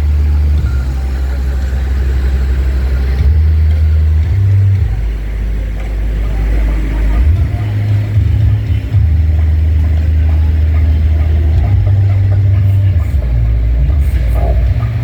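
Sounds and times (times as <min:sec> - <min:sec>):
loud deep bass notes: 0:00.0 - 0:15.0.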